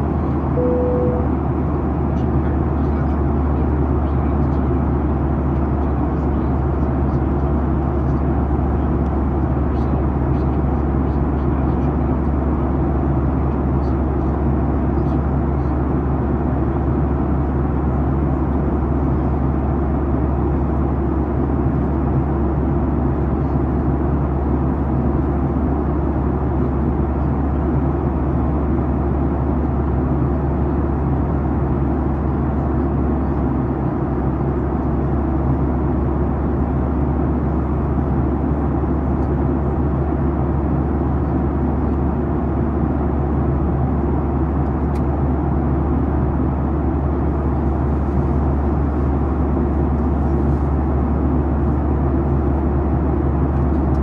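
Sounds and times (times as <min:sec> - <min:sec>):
airplane cabin airflow and engine drone: 0:00.0 - 0:54.0.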